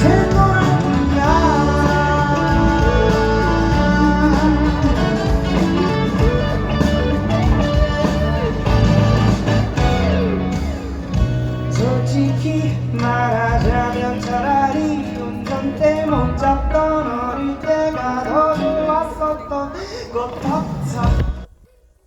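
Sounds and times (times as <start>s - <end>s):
person singing: 0.0s - 9.8s, 10.8s - 21.5s
bass: 0.0s - 19.4s, 20.4s - 21.5s
strummed guitars: 0.0s - 21.5s
drums: 0.0s - 22.0s.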